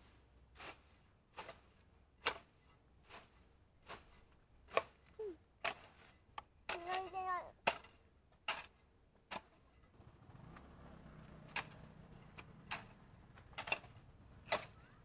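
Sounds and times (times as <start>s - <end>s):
hoe chopping into soil: 0.5s - 9.7s, 10.4s - 15.0s.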